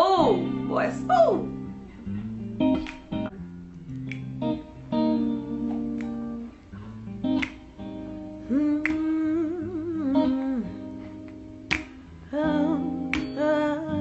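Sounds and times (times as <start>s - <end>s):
sharp clicks on the beat: 2.6s - 14.0s.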